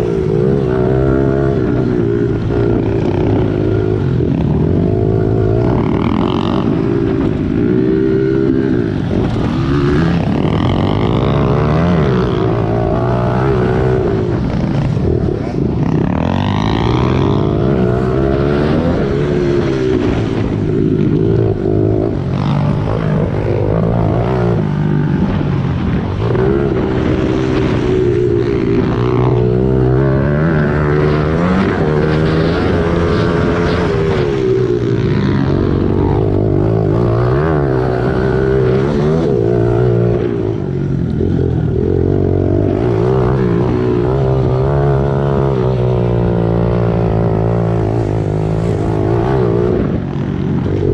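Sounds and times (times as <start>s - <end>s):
pit bike engines revving: 0.0s - 50.9s.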